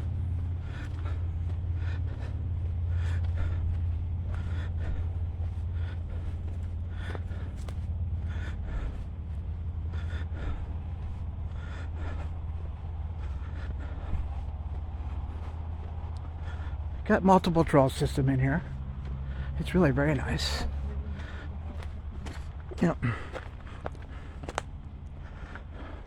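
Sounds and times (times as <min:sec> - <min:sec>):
crunchy footsteps on trail: 0:00.0 - 0:26.0
steady low rumble: 0:00.0 - 0:26.0.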